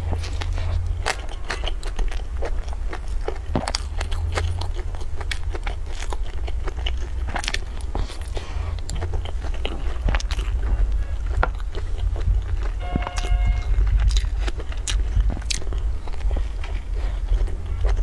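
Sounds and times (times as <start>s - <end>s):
low hum: 0.0s - 18.0s
person chewing: 0.0s - 18.0s.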